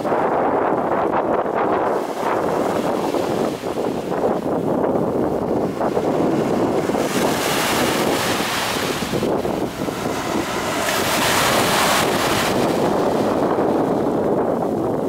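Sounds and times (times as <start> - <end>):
waves breaking on beach: 0.0 - 15.0
wind buffeting microphone: 0.0 - 15.0.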